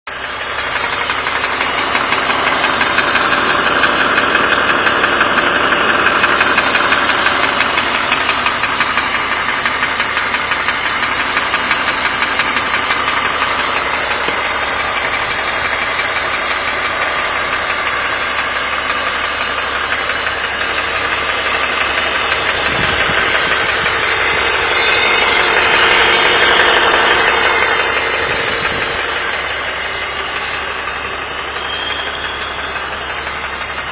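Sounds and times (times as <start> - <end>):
car engine running: 0.1 - 33.9
engine ticking knocking rattle: 0.1 - 33.9.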